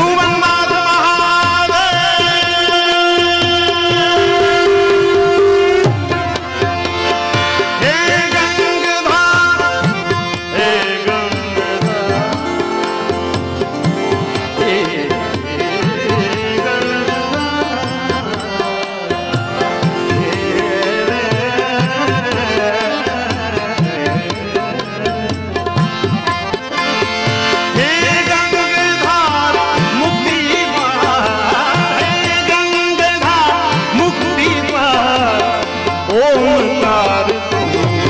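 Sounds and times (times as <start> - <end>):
keyboard melody: 0.0 - 38.0
tabla strokes: 0.0 - 38.0.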